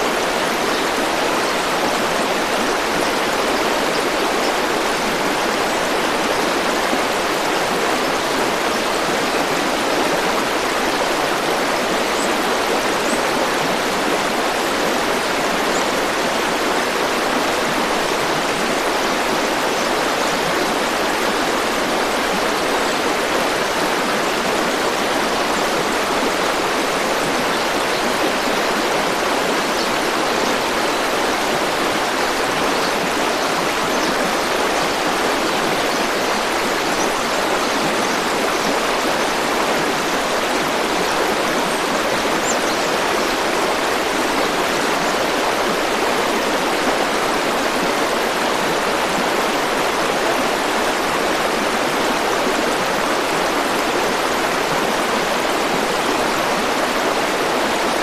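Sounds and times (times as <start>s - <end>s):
river flowing: 0.0s - 58.0s.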